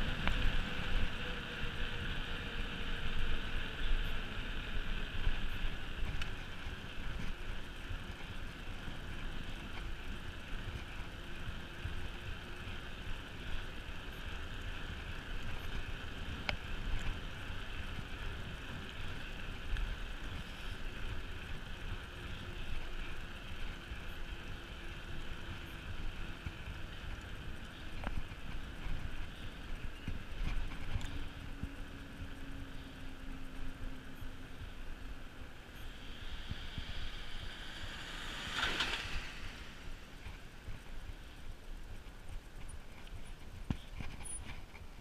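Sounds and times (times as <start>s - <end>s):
bike tyres hissing on road: 0.0s - 45.0s.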